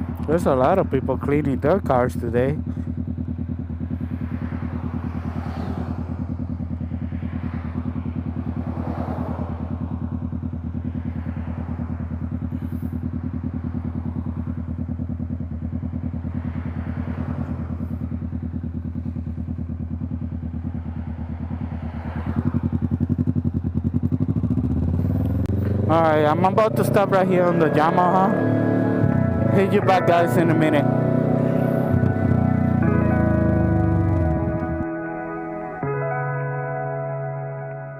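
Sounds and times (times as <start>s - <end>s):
motorcycle engine running: 0.0s - 36.2s.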